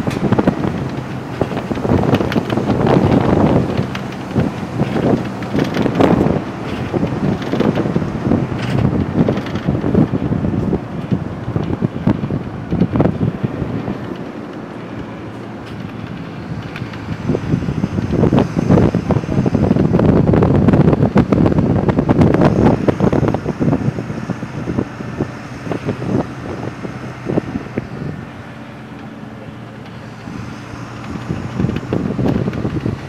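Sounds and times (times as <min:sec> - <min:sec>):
bus engine: 0:00.0 - 0:33.0
road noise: 0:00.0 - 0:33.0
wind buffeting microphone: 0:00.0 - 0:33.0.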